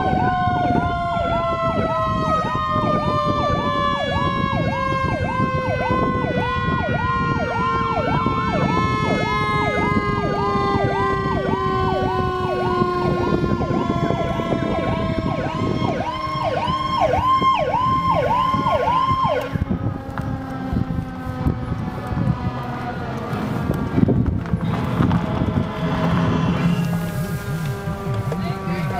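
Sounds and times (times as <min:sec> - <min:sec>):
falling siren tone: 0:00.0 - 0:28.9
vehicle noise: 0:00.0 - 0:28.9
yelp siren: 0:00.0 - 0:28.9.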